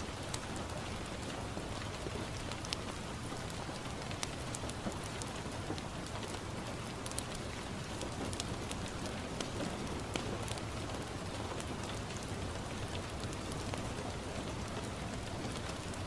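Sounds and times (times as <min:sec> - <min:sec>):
rain on a window: 0:00.0 - 0:16.0
wood fire crackling: 0:00.0 - 0:16.0.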